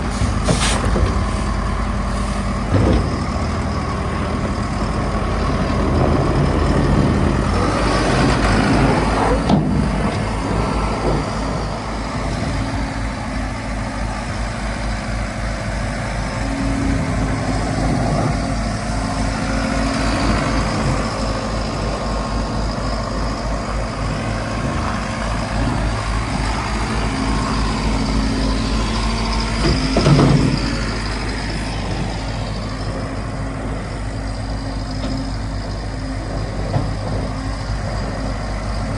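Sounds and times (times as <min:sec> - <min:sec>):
diesel engine working under load: 0:00.0 - 0:38.9.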